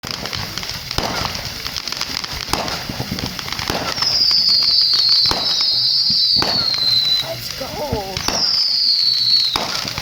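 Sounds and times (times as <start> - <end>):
fireworks crackling: 0.0 - 10.0
fireworks popping and banging: 0.0 - 10.0
high wavering whine: 0.3 - 10.0.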